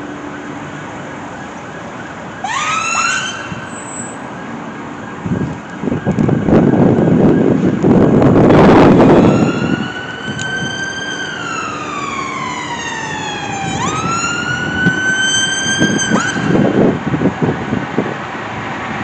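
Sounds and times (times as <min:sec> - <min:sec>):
electronic siren: 0:00.0 - 0:18.0
street traffic noise: 0:00.0 - 0:19.0.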